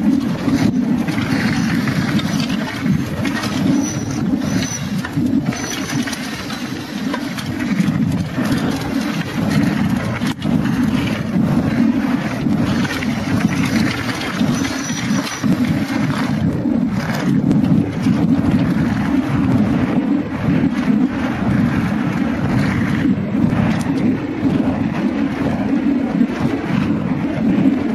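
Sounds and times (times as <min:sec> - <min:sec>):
mountain bike rattling over trail: 0:00.0 - 0:27.9
wind buffeting microphone: 0:00.0 - 0:27.9.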